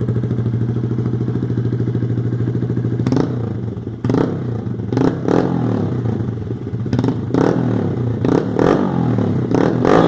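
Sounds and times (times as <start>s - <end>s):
motorcycle engine idling: 0.0s - 10.0s
motorcycle throttle blips: 0.0s - 10.0s.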